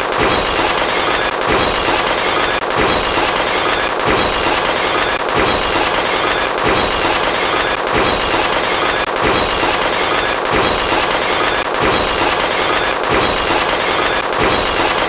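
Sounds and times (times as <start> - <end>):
firecracker pops and explosions: 0.0 - 15.0.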